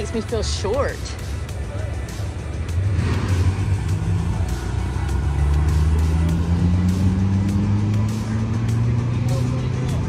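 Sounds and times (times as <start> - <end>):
background music: 0.0 - 10.0
car engine running: 0.0 - 10.0.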